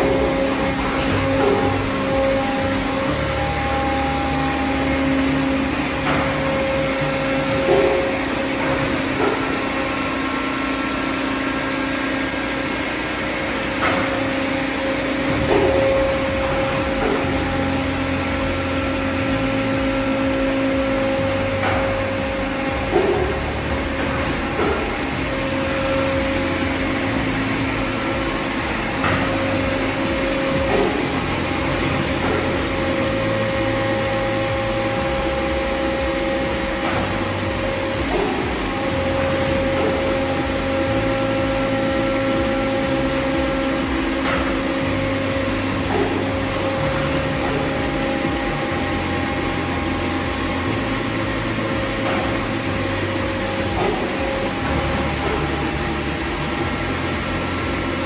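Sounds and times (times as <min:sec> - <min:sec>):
humming tone: 0:00.0 - 0:12.9, 0:13.5 - 0:58.0
pump machine hum: 0:00.0 - 0:58.0.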